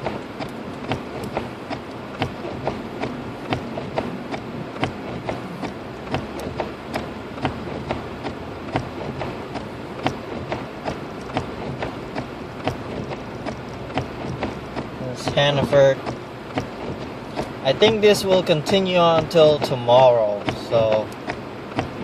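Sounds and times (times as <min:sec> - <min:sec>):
car engine and tyre noise: 0:00.0 - 0:22.0
hazard light flasher ticking: 0:00.0 - 0:22.0.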